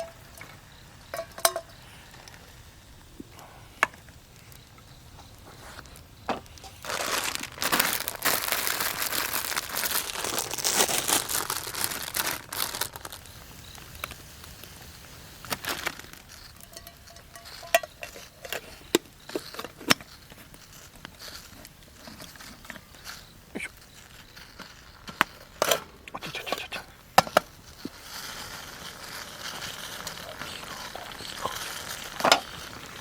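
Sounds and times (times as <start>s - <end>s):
crinkly material crumpling: 4.4s - 26.7s, 27.4s - 33.0s.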